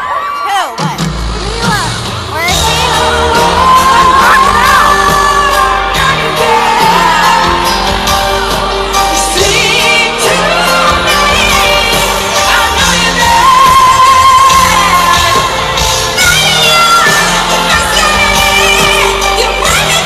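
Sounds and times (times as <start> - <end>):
live band accompaniment: 0.0 - 20.0
woman singing: 1.8 - 20.0.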